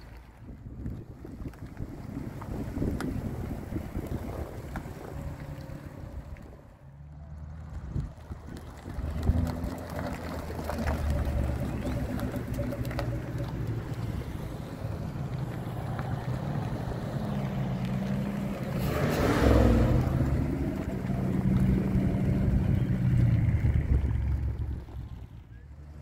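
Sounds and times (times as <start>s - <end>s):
car engines running at low speed: 0.0s - 26.0s.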